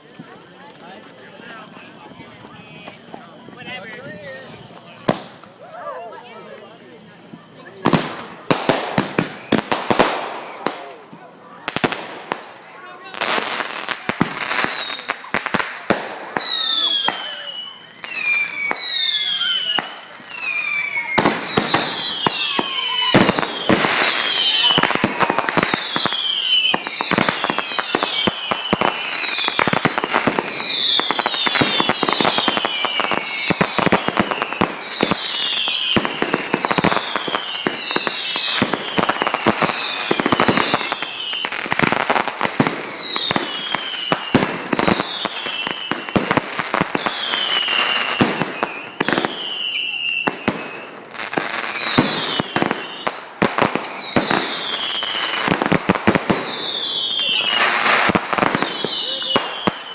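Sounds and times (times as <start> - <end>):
fireworks whistles falling in pitch: 0.0 - 5.5, 6.8 - 10.9, 13.2 - 59.9
fireworks crackling and popping: 0.0 - 59.9.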